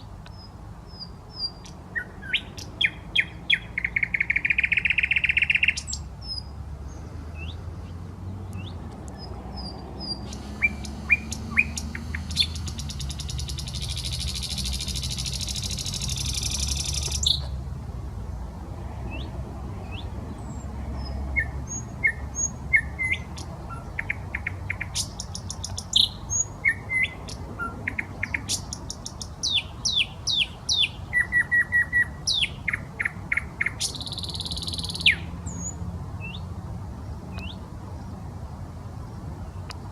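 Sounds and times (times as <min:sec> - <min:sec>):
nightingale singing: 0:00.0 - 0:17.6, 0:19.1 - 0:36.6, 0:37.3 - 0:37.7.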